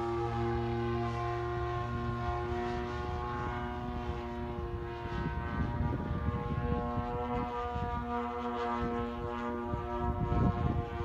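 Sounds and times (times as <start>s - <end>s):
propeller plane droning overhead: 0.0s - 11.0s.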